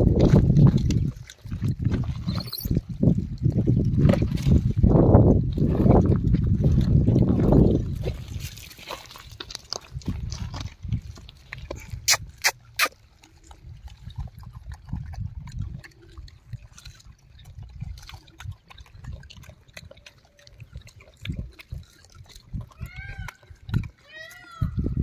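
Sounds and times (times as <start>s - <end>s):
monkeys chewing fruit: 0.0s - 4.7s, 5.6s - 25.0s.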